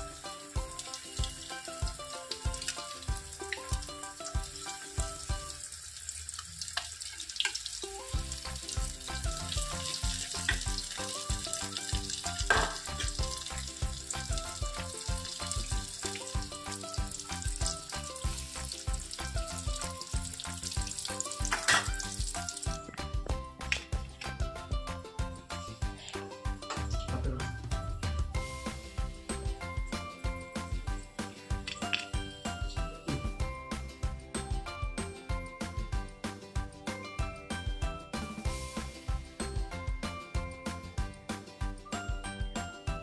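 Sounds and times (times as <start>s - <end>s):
music with steady beat: 0.0s - 5.7s, 8.1s - 43.0s
oil sizzling: 0.0s - 42.1s.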